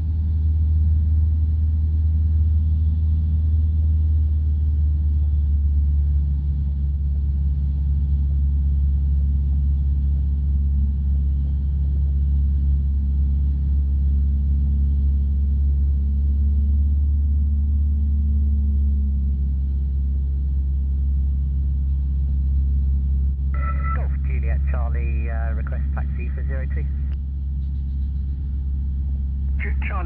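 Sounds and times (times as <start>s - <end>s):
light aircraft engine droning: 0.0s - 30.0s.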